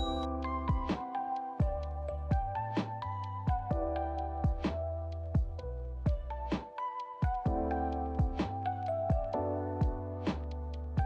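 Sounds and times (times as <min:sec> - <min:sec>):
held keyboard chords: 0:00.0 - 0:11.0.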